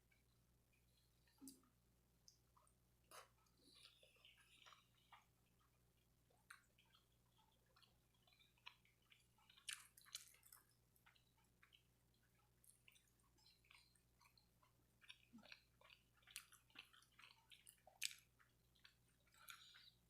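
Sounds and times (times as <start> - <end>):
person chewing: 0.1 - 20.0.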